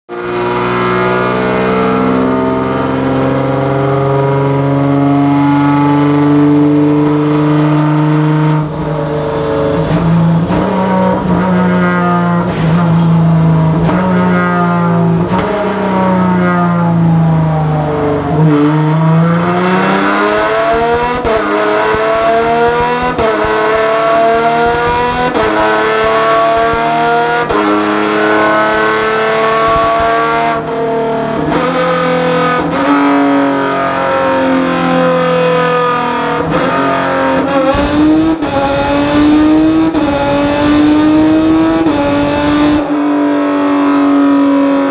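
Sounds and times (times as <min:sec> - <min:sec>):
race car engine revving: 0:00.1 - 0:44.9.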